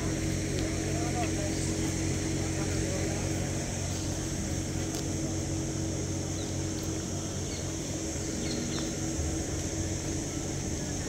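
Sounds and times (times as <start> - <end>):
low mechanical hum: 0.0 - 11.0
steady high hiss: 0.0 - 11.0.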